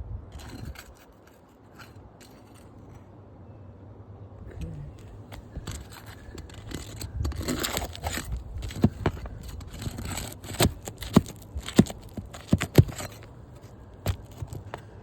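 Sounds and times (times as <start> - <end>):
shingles scraping and crackling: 0.4 - 2.9, 5.0 - 15.0.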